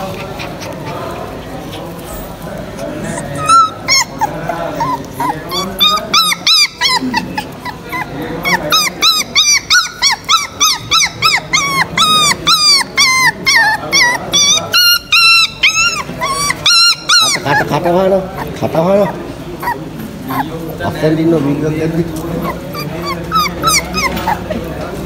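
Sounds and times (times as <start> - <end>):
puppies whining and yelping: 1.9 - 20.8, 22.2 - 24.7.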